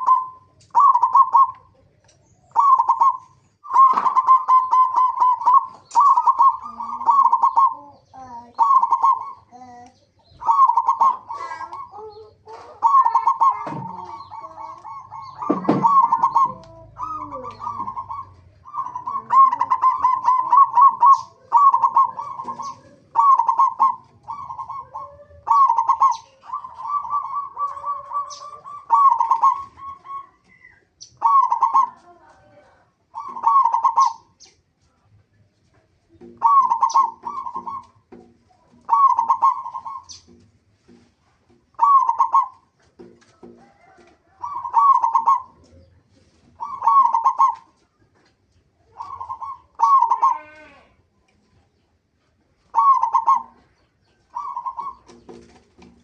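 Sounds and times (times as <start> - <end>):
doves cooing: 0.0 - 34.6, 35.7 - 56.0.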